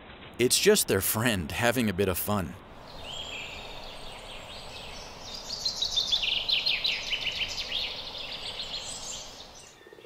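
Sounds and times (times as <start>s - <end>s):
forest ambience hiss: 0.4s - 10.0s
songbird chirping: 0.5s - 10.0s.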